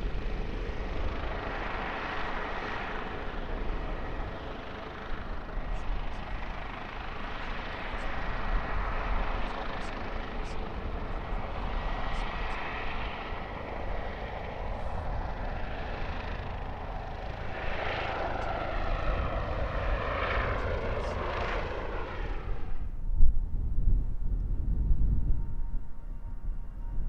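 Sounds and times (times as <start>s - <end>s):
airliner engines passing: 0.0s - 27.0s.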